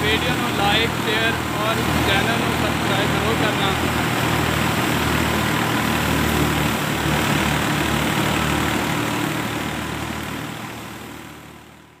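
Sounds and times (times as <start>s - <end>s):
thresher rushing noise: 0.0s - 10.9s
tractor engine: 0.0s - 11.0s.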